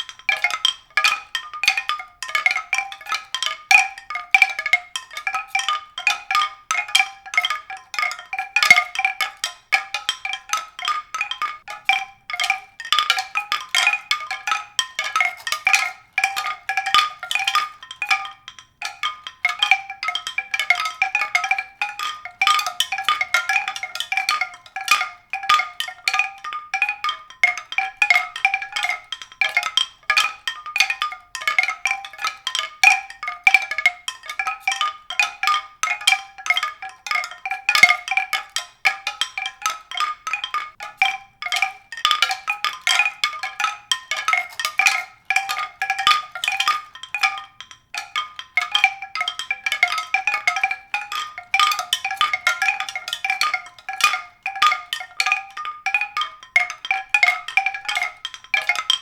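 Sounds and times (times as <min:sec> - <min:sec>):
ringing tuned percussion notes: 0:00.0 - 0:59.0.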